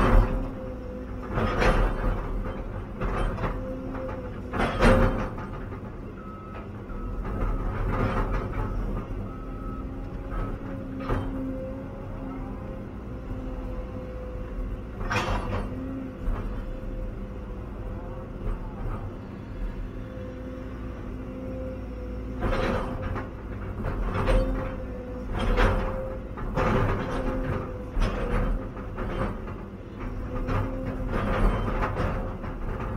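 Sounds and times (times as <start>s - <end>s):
constant machine whine: 0.0s - 32.9s
excavator diesel engine running: 0.0s - 32.9s.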